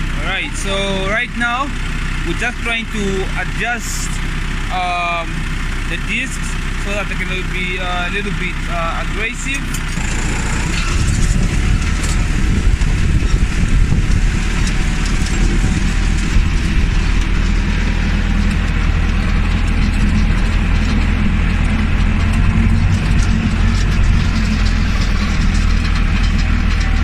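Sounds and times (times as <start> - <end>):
tractor engine running: 0.0 - 27.0
metallic clatter of harrow discs: 5.3 - 27.0.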